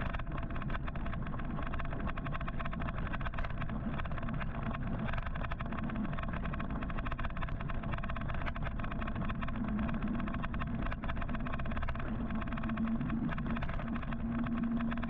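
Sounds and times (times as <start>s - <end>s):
small clicks and rattles: 0.0s - 15.0s.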